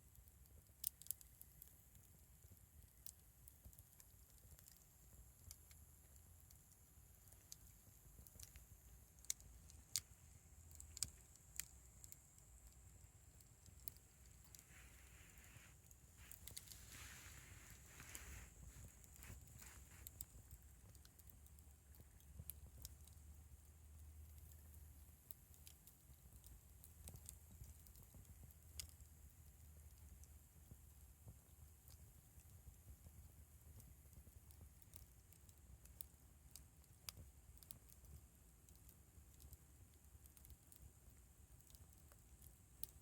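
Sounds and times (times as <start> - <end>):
campfire crackling: 0.0 - 43.0
fire pops and ticks: 0.0 - 43.0
low rumble of burning fire: 0.0 - 43.0.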